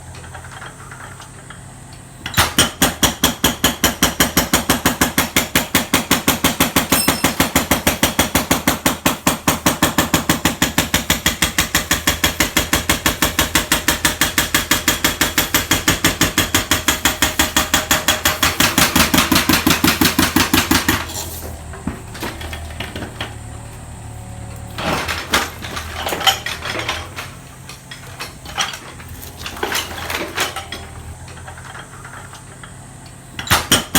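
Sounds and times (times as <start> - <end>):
knocks and clatter: 2.2 - 32.8
hydraulic breaker hammering: 2.2 - 33.9.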